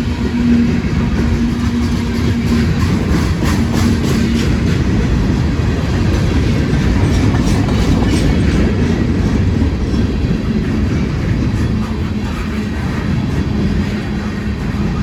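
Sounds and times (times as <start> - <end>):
freight train rumbling past: 0.0 - 15.0
wheels clicking over rail joints: 0.0 - 15.0.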